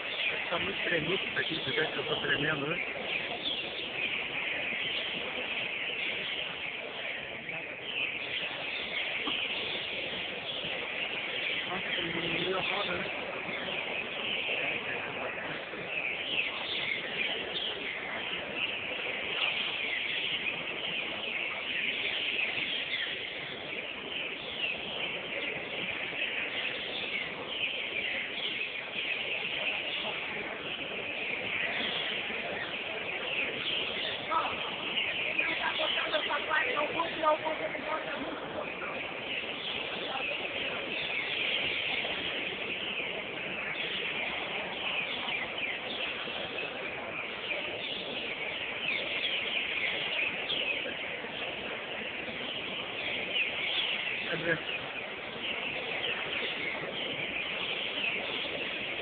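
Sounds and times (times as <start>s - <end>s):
birds singing whistled phrases: 0.0s - 59.0s.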